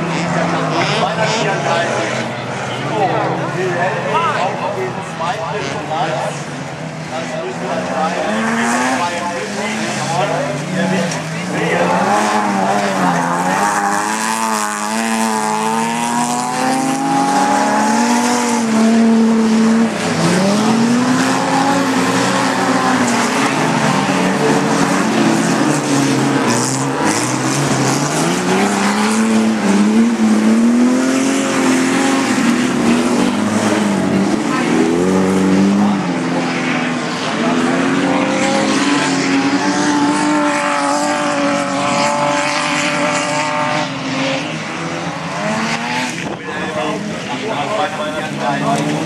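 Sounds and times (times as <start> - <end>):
racing car engines revving: 0.0 - 49.0.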